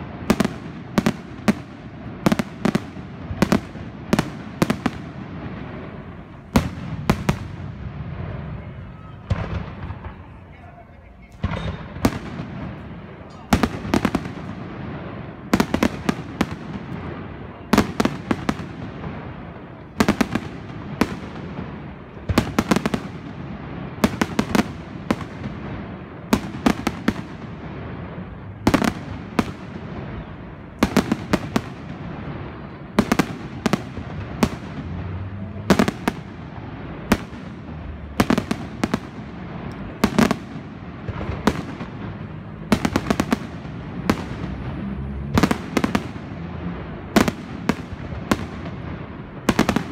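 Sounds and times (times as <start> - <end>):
fireworks bangs with echo: 0.0 - 49.9.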